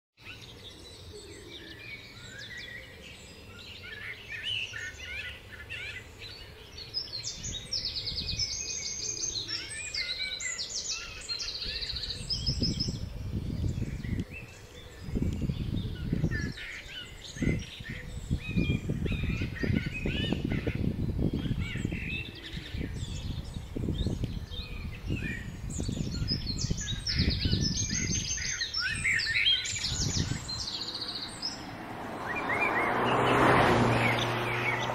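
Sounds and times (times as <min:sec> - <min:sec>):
songbirds singing and chirping: 0:00.2 - 0:34.9.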